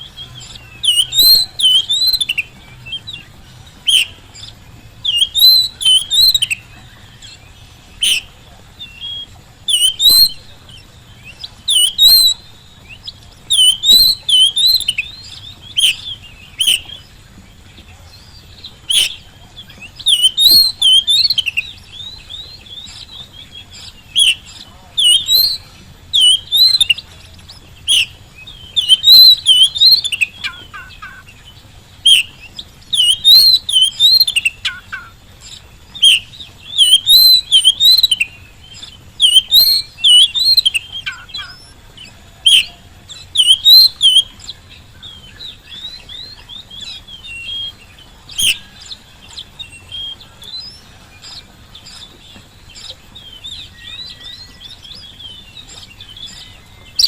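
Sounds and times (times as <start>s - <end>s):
magpie-robin singing whistled phrases: 0.0s - 57.0s.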